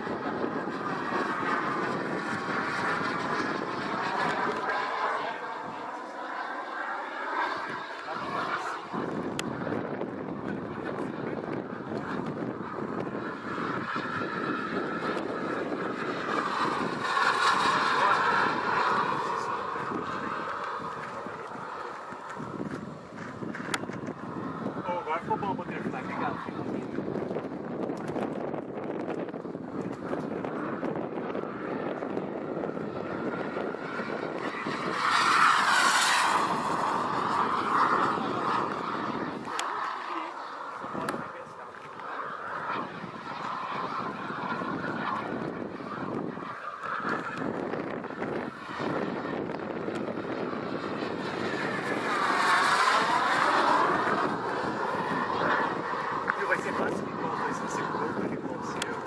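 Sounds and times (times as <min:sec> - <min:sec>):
model jet turbine rushing: 0:00.0 - 0:59.0
wind on microphone: 0:00.0 - 0:59.0.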